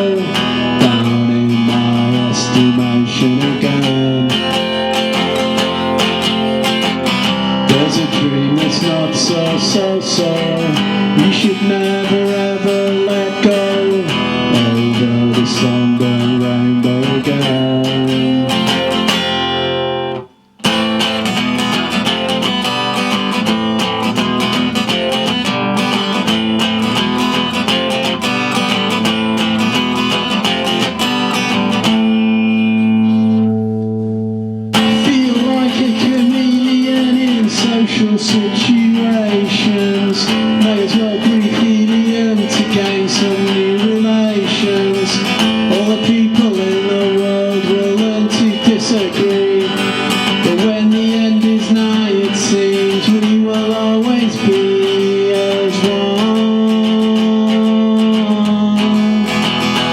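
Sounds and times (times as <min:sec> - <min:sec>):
solo acoustic guitar: 0:00.0 - 0:59.9.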